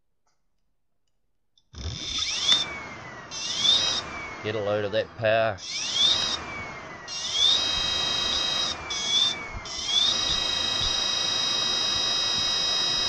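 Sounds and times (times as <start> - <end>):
electric motor whine: 1.8 - 13.0.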